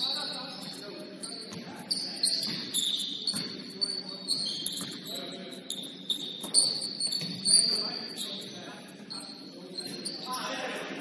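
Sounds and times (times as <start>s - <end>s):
players' voices: 0.0s - 11.0s
sneakers squeaking: 0.0s - 11.0s.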